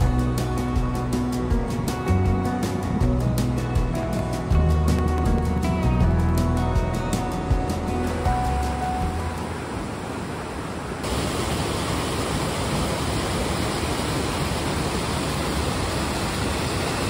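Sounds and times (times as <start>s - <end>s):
stream rushing over boulders: 0.0s - 17.0s.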